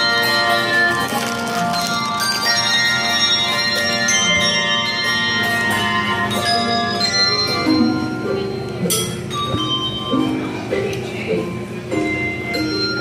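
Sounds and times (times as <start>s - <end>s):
handbell choir playing: 0.0s - 13.0s.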